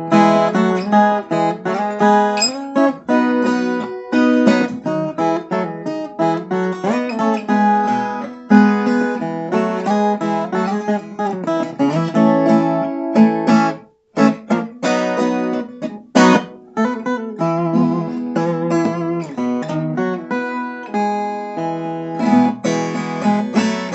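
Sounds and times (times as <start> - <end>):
steel-string guitar plucked and strummed: 0.0 - 23.9.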